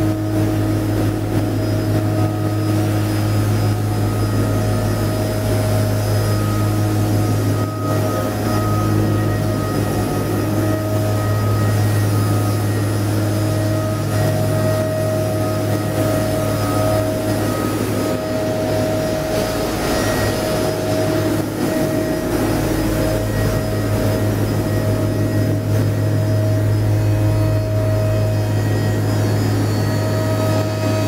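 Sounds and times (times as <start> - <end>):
grinder mill humming: 0.0 - 31.0
steady higher tone: 0.0 - 31.0.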